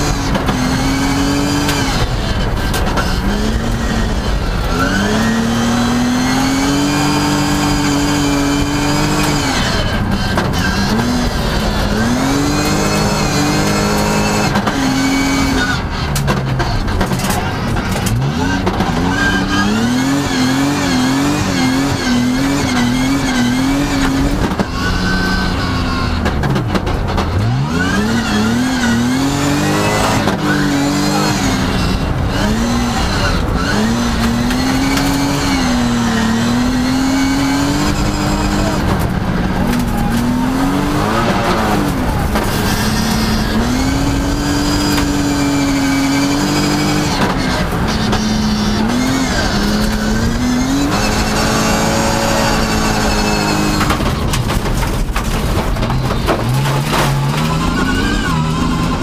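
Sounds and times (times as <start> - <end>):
rally car engine revving: 0.0 - 59.0
road noise: 0.0 - 59.0.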